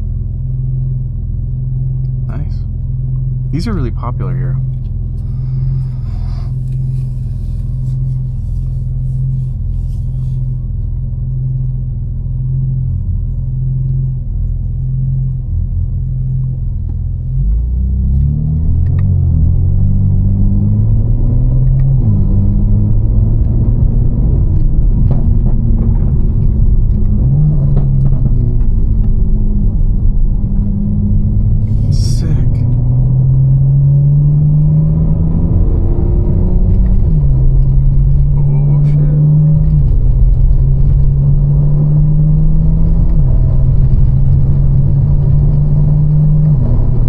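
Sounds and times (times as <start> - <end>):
car engine revving: 1.6 - 47.0.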